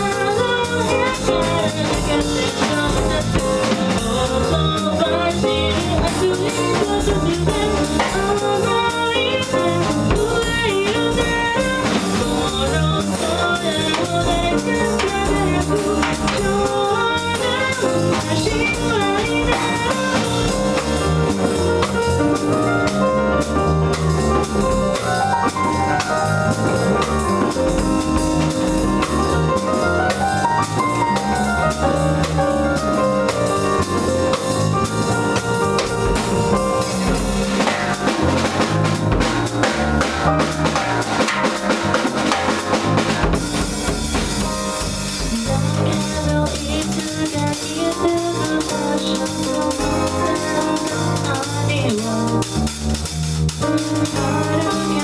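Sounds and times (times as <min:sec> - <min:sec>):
drums and cymbals hits: 0:00.0 - 0:55.0
small jazz band playing: 0:00.0 - 0:55.0.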